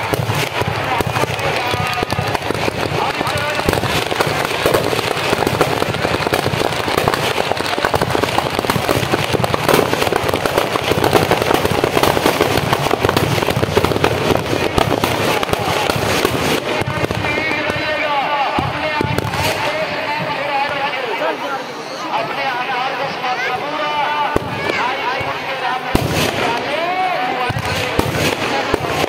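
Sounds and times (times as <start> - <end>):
firecrackers crackling: 0.0 - 29.0.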